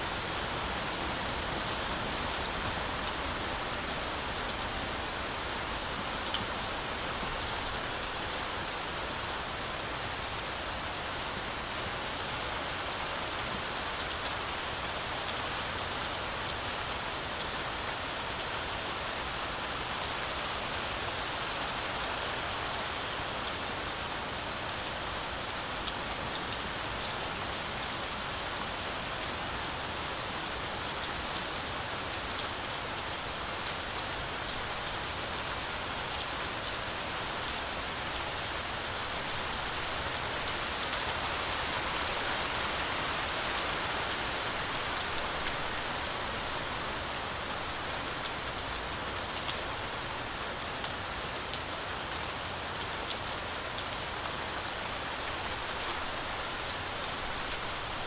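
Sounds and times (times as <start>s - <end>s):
heavy rain through forest canopy: 0.0s - 58.0s.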